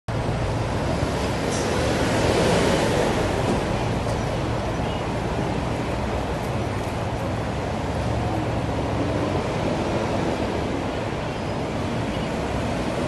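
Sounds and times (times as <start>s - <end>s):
road traffic: 0.1s - 13.0s.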